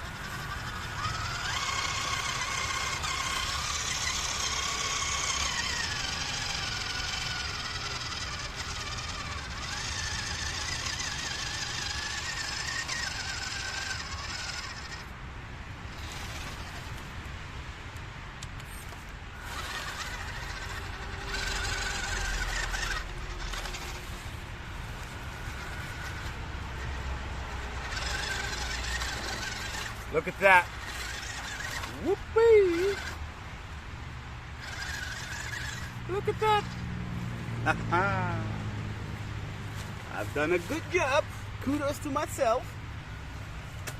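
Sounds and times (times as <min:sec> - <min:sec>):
toy truck motor whining: 0:00.0 - 0:43.9.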